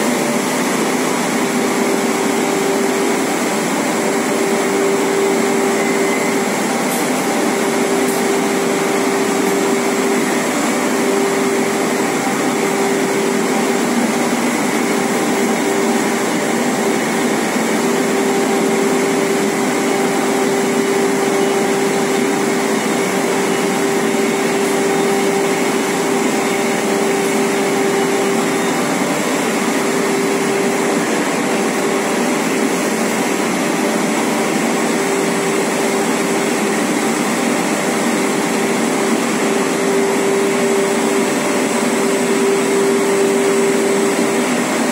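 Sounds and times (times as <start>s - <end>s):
machinery whirring and humming: 0.0s - 44.9s.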